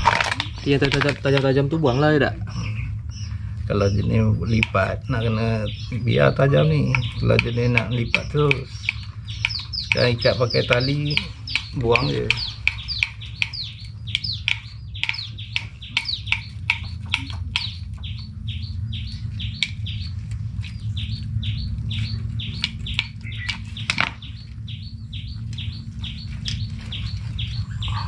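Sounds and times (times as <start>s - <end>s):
birds chirping rapidly: 0.0s - 28.0s
steady low hum: 0.0s - 28.0s.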